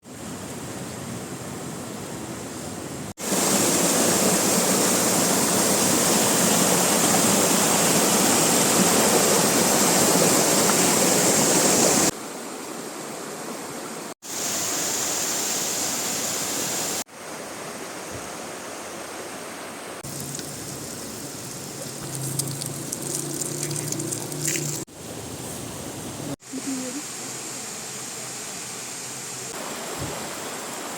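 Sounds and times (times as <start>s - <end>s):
waterfall and river rushing: 0.0s - 22.9s, 23.5s - 30.9s.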